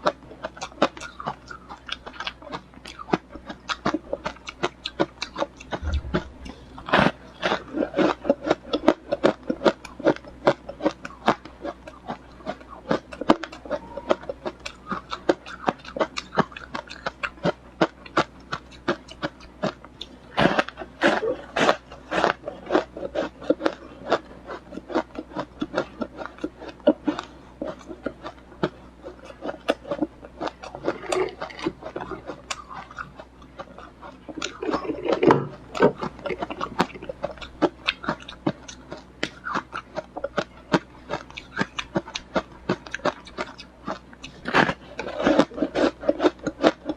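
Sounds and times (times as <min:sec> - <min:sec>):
ice crunching while chewed: 0:00.0 - 0:06.1, 0:07.5 - 0:46.9.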